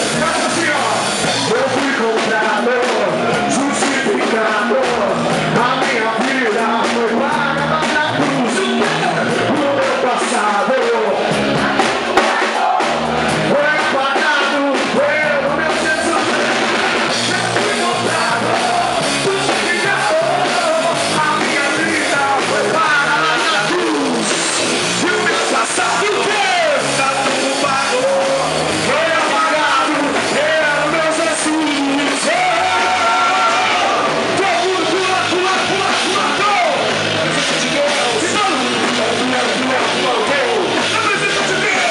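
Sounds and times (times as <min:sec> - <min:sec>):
band playing worship music: 0:00.0 - 0:41.9
voices singing: 0:00.0 - 0:41.9.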